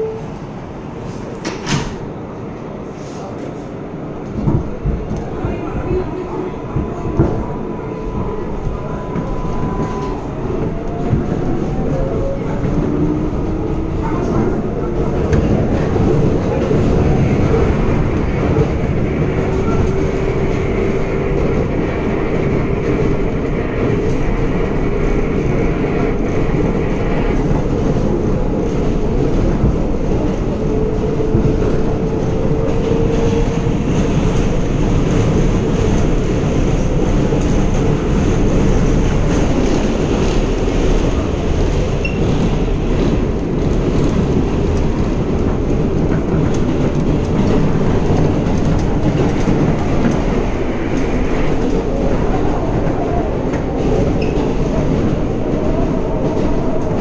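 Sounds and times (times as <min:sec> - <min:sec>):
clickety-clack of rails: 0:00.0 - 0:57.0
train wheels rumbling on rails: 0:00.0 - 0:57.0.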